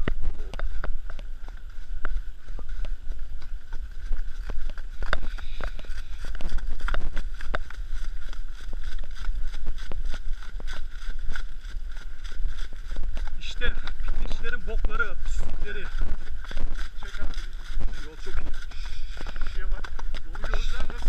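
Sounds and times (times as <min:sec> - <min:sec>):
horse hooves clopping on dirt: 0:00.0 - 0:21.0
wind rumble on microphone: 0:00.0 - 0:21.0.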